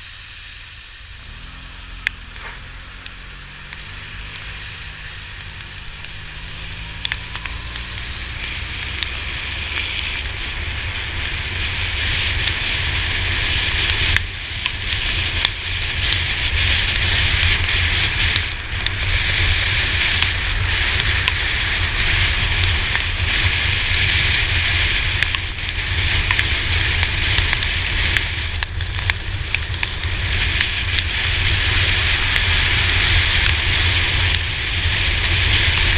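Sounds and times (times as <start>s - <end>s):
scooter engine rumble: 0.0s - 35.9s
tyre spray on wet road: 0.0s - 35.9s
raindrops ticking on camera: 1.6s - 35.9s.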